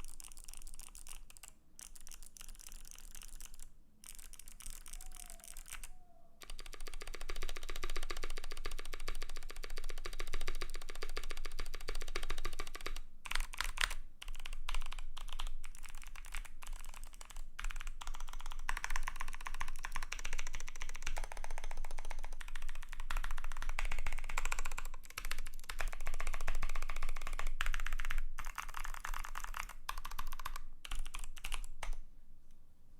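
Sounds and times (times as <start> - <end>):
fast typing on mechanical keyboard: 0.0 - 32.0.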